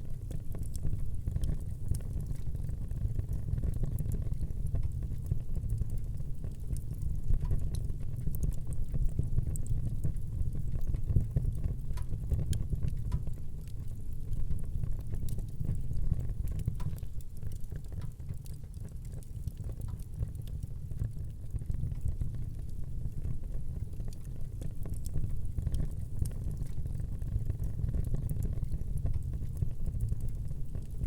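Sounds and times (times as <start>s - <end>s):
fire crackling and popping: 0.0s - 31.0s
low rumble of fire: 0.0s - 31.0s.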